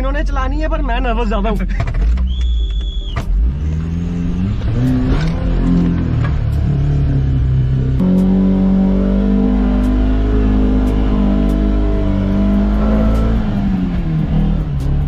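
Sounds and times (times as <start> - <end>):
car engine revving: 2.0 - 15.0.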